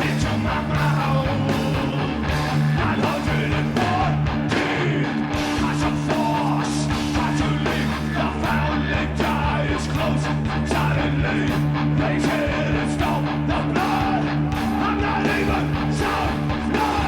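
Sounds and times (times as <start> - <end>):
bass guitar: 0.0 - 17.0
distorted electric guitar: 0.0 - 17.0
person singing: 0.0 - 17.0.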